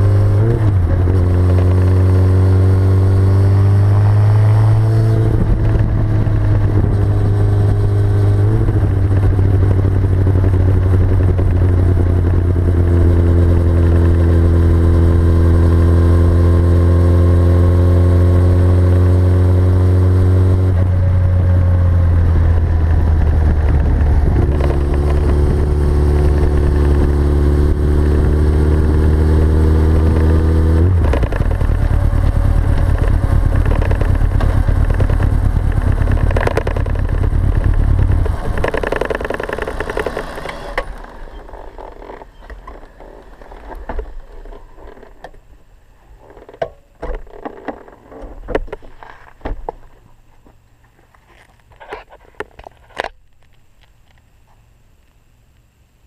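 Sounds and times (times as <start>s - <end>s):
motorcycle engine running: 0.0s - 45.3s.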